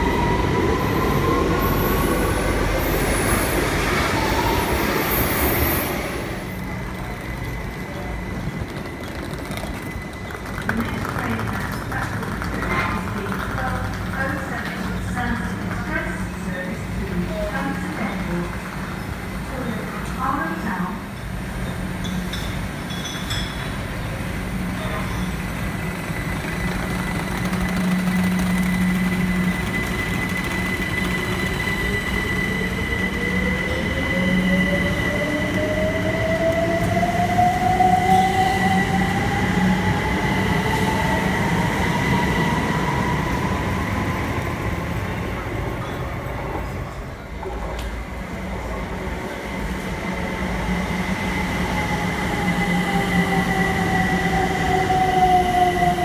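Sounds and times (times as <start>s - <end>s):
electric train hum: 0.0s - 22.9s, 23.7s - 56.0s.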